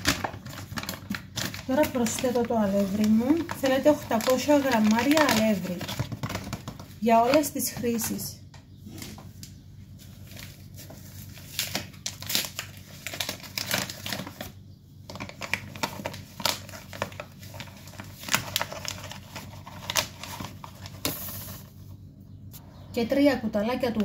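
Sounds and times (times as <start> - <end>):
paper bag crinkling: 0.0 - 7.5, 10.0 - 21.8.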